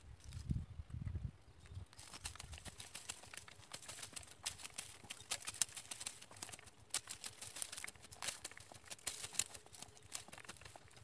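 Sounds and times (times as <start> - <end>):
hoe chopping and scraping soil: 2.0 - 11.0.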